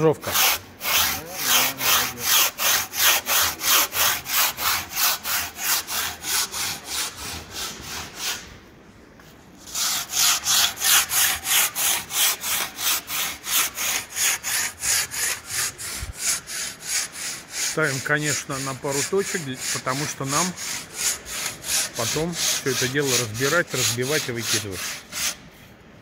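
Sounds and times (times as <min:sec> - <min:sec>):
handsaw cutting: 0:00.2 - 0:08.4, 0:09.6 - 0:25.4.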